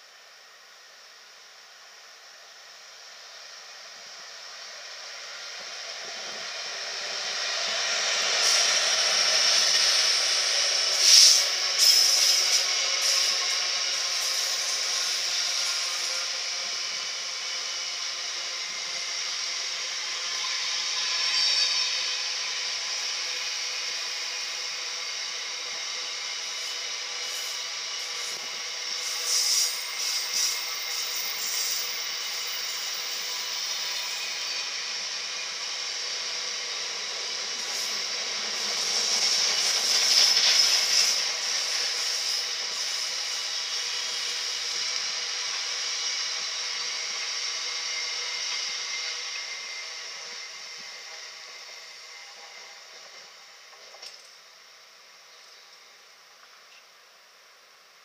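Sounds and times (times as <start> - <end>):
diesel locomotive passing: 3.4 - 53.7
freight train wheels rumbling on rails: 4.8 - 54.0
high-pitched rail screech: 5.2 - 53.4.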